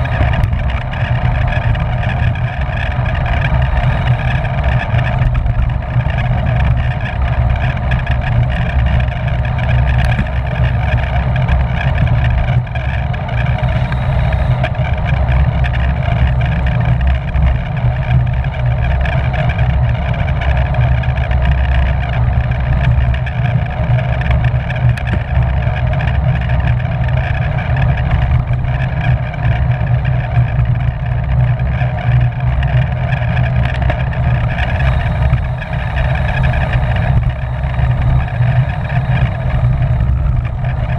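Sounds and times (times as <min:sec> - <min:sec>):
wind roaring over microphone: 0:00.0 - 0:40.9.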